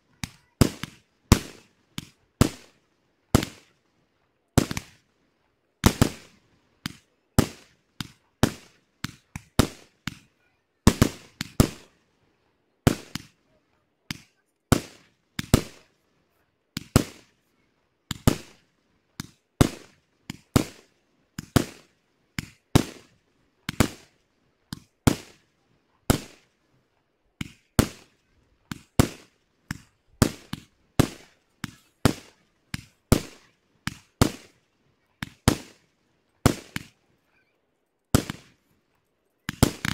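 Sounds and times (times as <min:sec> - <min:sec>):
fireworks bursting with sharp bangs: 0:00.0 - 0:04.0, 0:04.6 - 0:05.1, 0:05.8 - 0:12.0, 0:12.8 - 0:26.7, 0:27.4 - 0:37.5, 0:38.1 - 0:38.7, 0:39.4 - 0:39.9.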